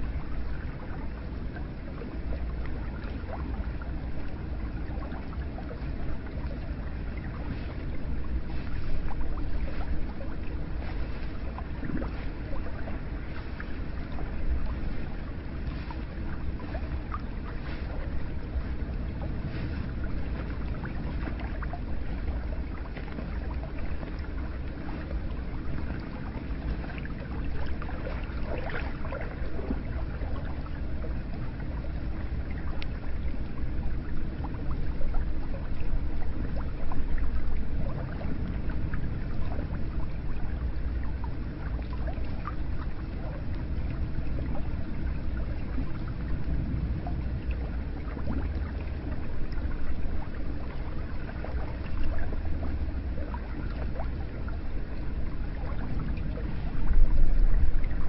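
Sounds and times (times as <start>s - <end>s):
water rushing: 0.0s - 58.0s
water splashing and trickling: 0.0s - 58.0s.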